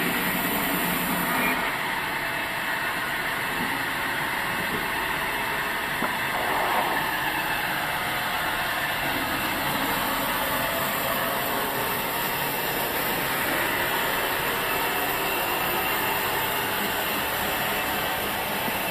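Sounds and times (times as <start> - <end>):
sawmill machinery running: 0.0 - 18.9.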